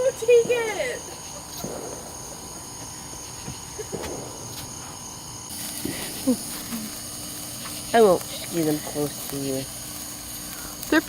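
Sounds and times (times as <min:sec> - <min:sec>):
crickets chirring: 0:00.0 - 0:11.0
soft hiss: 0:00.0 - 0:11.0.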